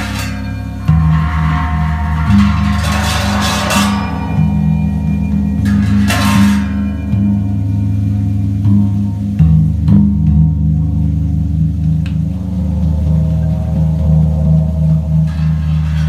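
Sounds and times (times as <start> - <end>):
bright metallic crash: 0.0 - 10.3, 12.1 - 16.0
deep hanging gongs ringing: 0.0 - 16.0.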